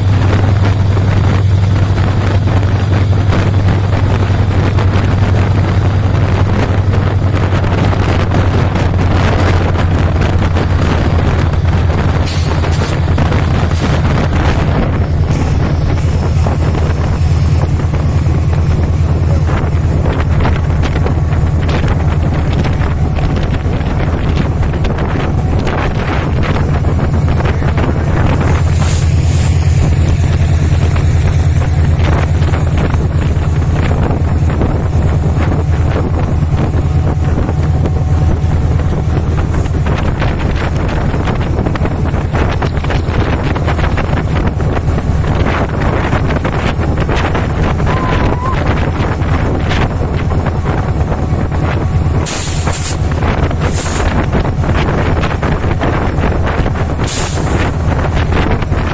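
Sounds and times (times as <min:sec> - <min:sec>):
train rumbling past: 0:00.0 - 0:58.9.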